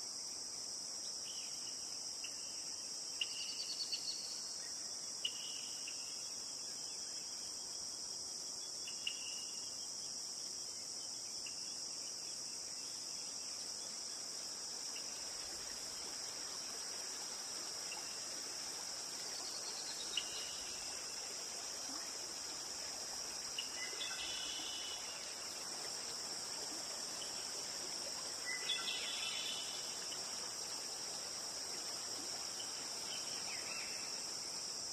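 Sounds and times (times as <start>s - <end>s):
high-pitched insect chorus: 0.0s - 34.9s.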